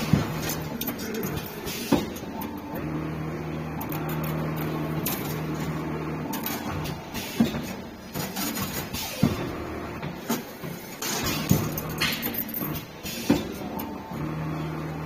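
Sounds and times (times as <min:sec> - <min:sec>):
machine motor hum: 0:00.0 - 0:15.0.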